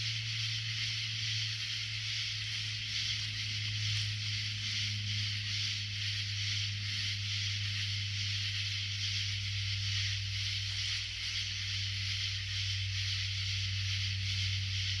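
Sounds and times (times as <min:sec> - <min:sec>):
constant low hum: 0:00.0 - 0:15.0
night insects buzzing: 0:00.0 - 0:15.0.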